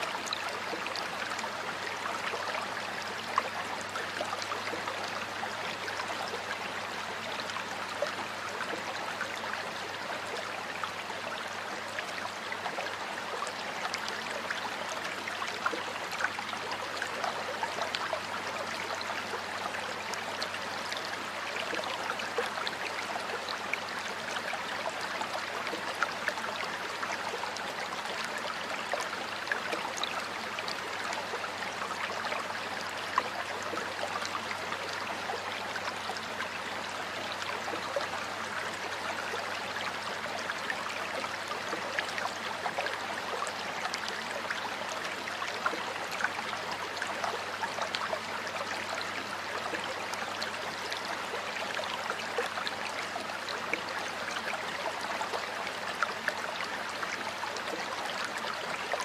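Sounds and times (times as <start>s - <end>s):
stream water flowing and bubbling: 0.0s - 59.0s.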